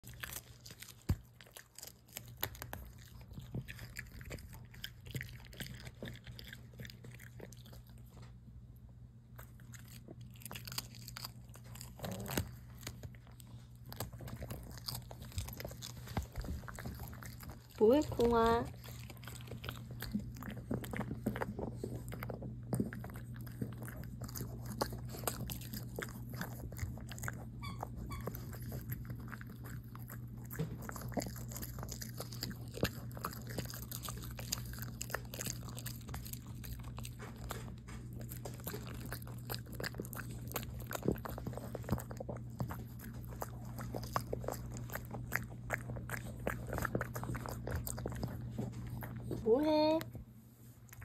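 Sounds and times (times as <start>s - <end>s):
dog chewing cabbage leaves: 0.0s - 8.5s, 9.3s - 50.1s.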